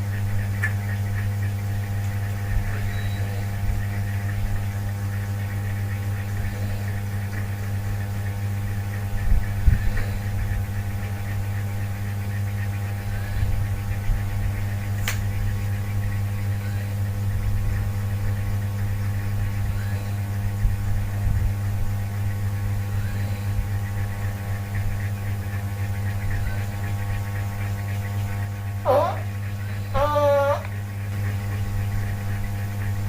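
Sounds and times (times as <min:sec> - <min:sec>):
steady low hum with tones: 0:00.0 - 0:33.0.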